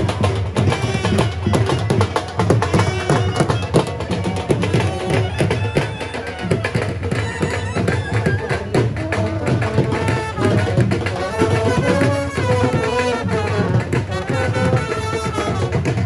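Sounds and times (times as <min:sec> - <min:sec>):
dense drum beat: 0:00.0 - 0:16.0.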